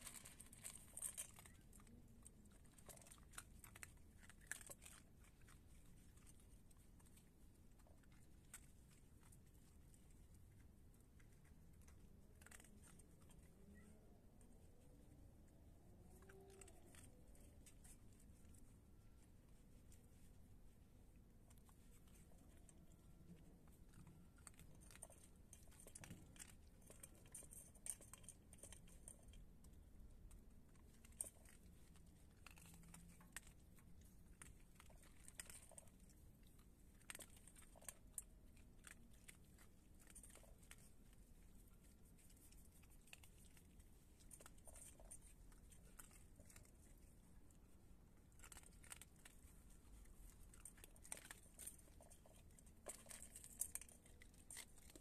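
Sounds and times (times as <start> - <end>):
animals crunching dry kibble: 0.0 - 14.2, 15.7 - 55.0.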